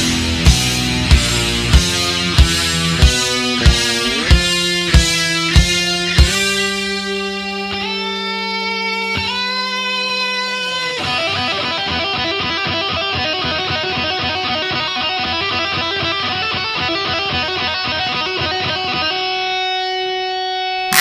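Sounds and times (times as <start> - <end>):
background guitar music: 0.0 - 21.0.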